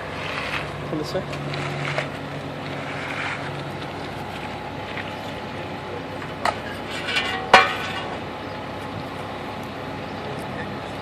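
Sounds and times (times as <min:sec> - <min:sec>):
concrete mixer truck running: 0:00.0 - 0:11.0.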